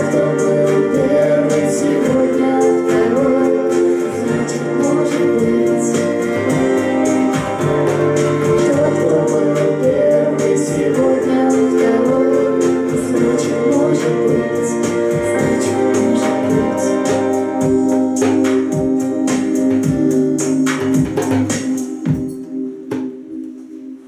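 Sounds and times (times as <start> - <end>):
percussion beat: 0.0 - 23.1
person singing: 0.0 - 23.8
keyboard chords: 0.0 - 24.0.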